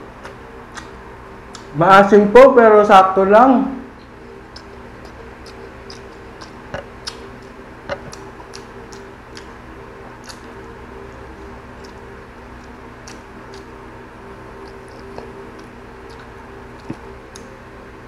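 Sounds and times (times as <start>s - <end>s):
steady low hum: 0.0s - 18.0s
person chewing and smacking: 0.1s - 1.8s, 4.0s - 17.6s.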